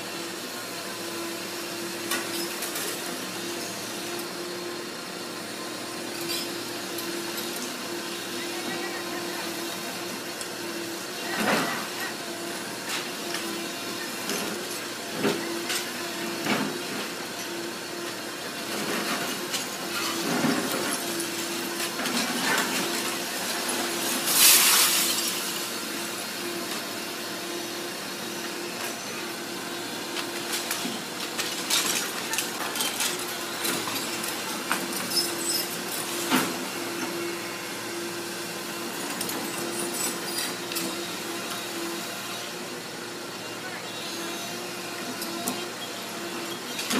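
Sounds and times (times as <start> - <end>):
excavator engine hum: 0.0 - 46.9.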